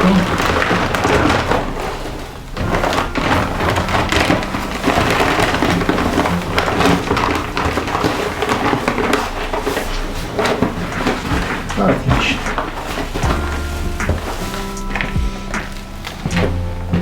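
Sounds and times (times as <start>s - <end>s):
dry concrete mix pouring: 0.0s - 17.0s.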